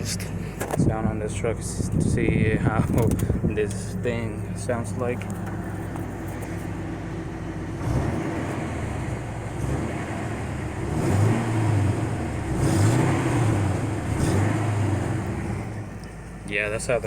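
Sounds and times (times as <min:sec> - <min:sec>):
truck engine revving: 0:01.6 - 0:16.2.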